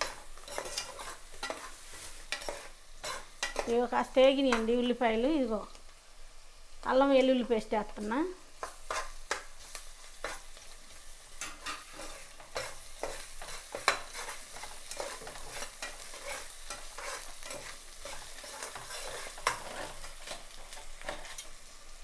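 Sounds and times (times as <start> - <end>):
onions sizzling in hot oil: 0.0 - 22.0
spoon stirring and scraping pan: 0.0 - 22.0.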